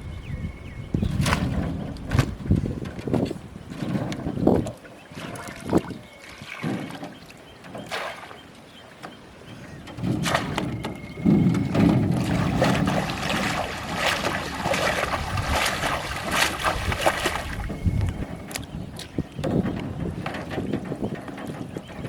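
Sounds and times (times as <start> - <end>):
water splashing around a boat: 1.0 - 22.0.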